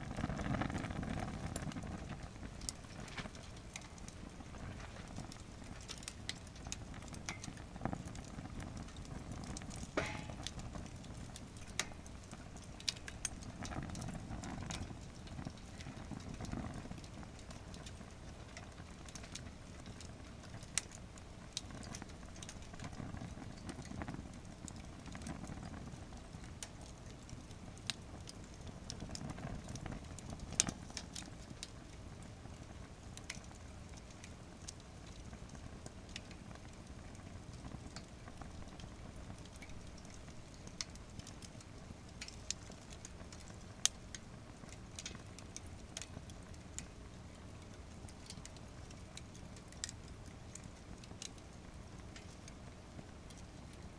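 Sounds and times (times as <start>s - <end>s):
firewood crackling and popping: 0.0s - 53.9s
low rush of flames: 0.0s - 53.9s.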